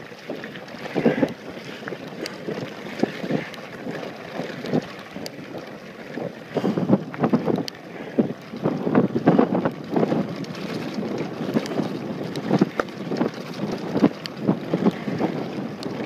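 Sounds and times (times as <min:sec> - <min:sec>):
bike knocking and rattling: 0:00.0 - 0:16.0
wind buffeting microphone: 0:00.0 - 0:16.0.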